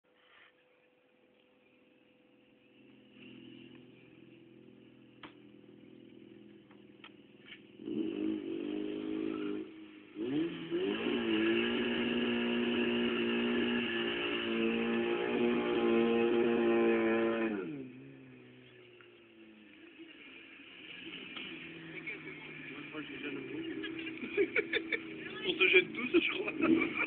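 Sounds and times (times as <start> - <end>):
car engine idling and revving: 0.3 - 27.0.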